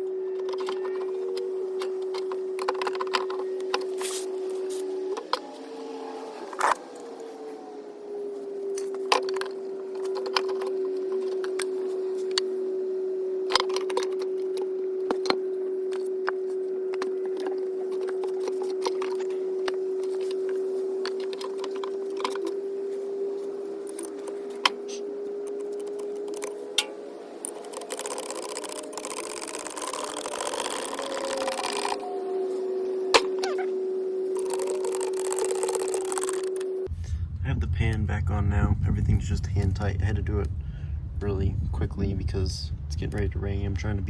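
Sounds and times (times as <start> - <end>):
small motor humming: 0.0 - 37.0.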